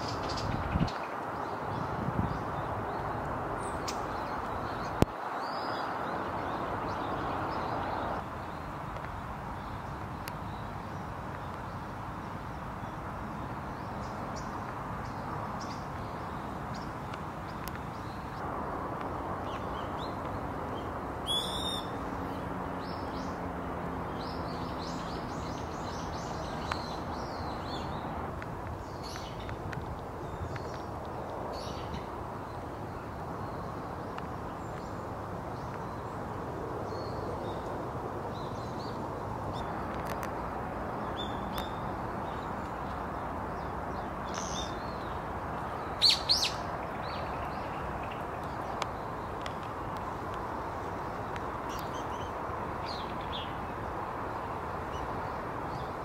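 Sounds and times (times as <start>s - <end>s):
birds chirping: 0.0s - 18.4s, 19.0s - 56.0s
outdoor background noise: 0.0s - 56.0s.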